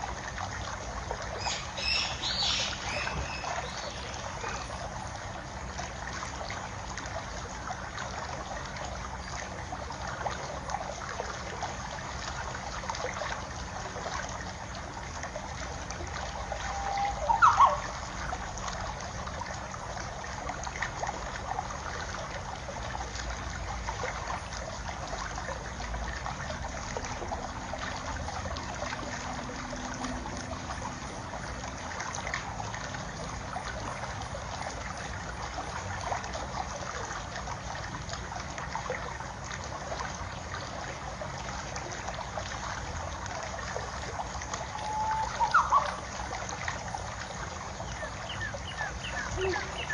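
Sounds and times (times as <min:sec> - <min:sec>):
water trickling: 0:00.0 - 0:49.9.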